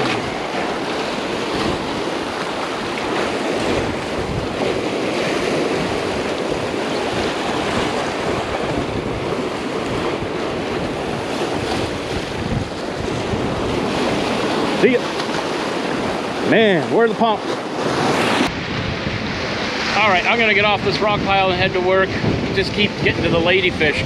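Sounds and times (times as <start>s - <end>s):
surf breaking over rocks: 0.0s - 24.0s.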